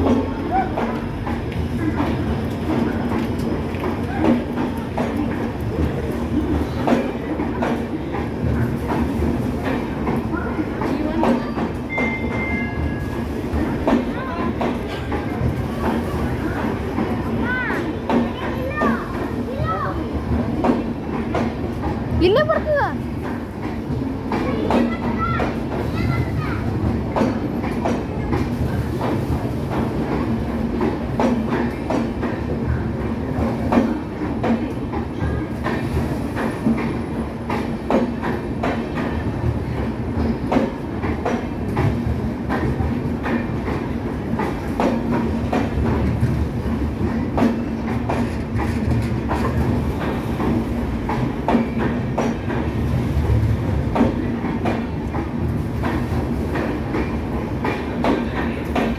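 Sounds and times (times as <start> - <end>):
train coaches rumbling: 0.0 - 58.9.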